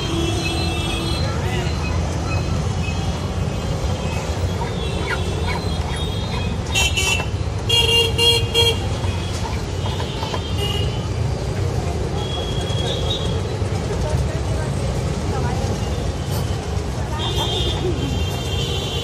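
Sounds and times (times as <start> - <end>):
road traffic rumbling: 0.0 - 19.0.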